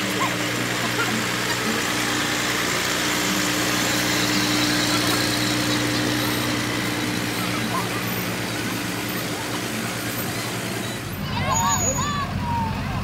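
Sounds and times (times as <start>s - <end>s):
fire truck engines running: 0.0s - 13.0s.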